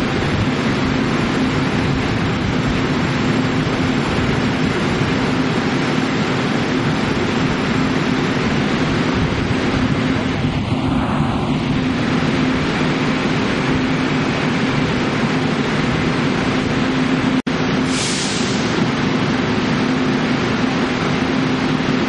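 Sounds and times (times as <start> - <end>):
train hum and rumble: 0.0 - 22.0.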